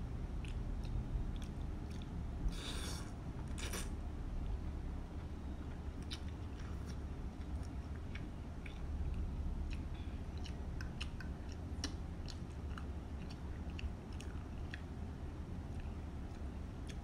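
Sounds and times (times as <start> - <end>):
low hum: 0.0 - 17.0
chewing noodles: 0.4 - 3.9, 6.0 - 17.0.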